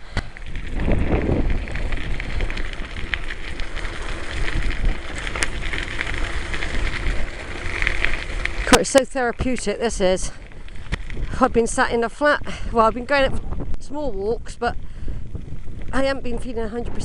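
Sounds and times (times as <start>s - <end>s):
tyres crackling on loose surface: 0.0s - 14.5s
wind rushing over microphone: 0.0s - 17.0s.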